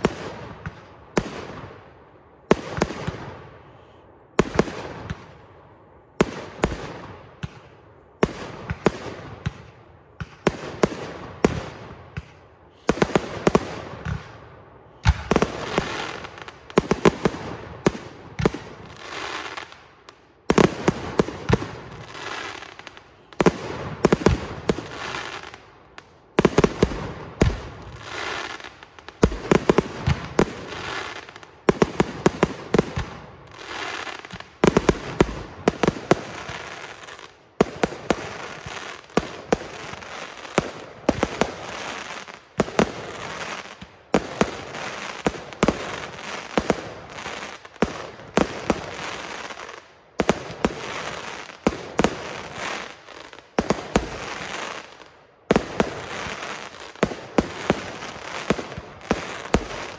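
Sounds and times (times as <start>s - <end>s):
crackling firework stars: 0.0s - 59.9s.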